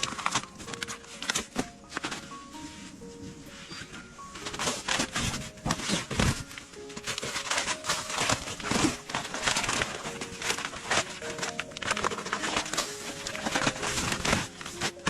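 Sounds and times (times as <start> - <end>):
rustling and crinkling handling: 0.0 - 15.0
soft background music: 0.0 - 15.0.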